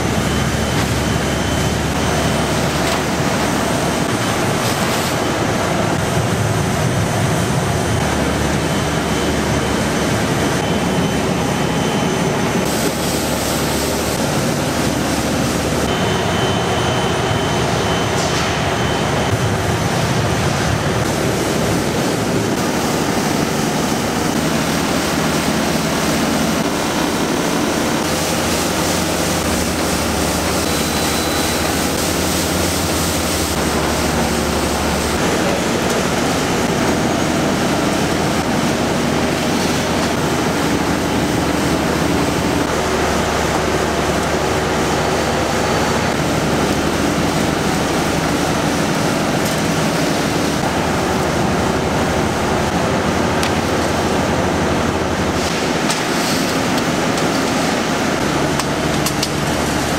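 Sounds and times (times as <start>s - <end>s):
faint high whine: 0.0s - 56.8s
factory machinery running: 0.0s - 59.9s.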